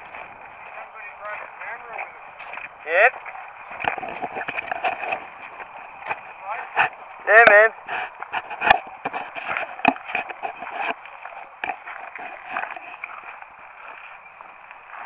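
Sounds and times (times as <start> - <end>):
spiked shoes crunching on ice: 0.0 - 15.0.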